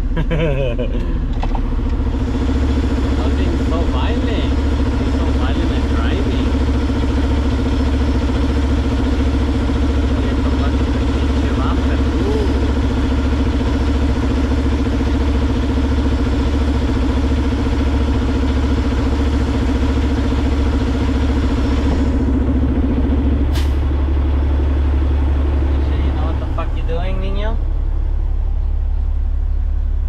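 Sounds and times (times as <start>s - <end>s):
road noise: 0.0s - 30.0s
truck diesel engine drone: 0.0s - 30.0s.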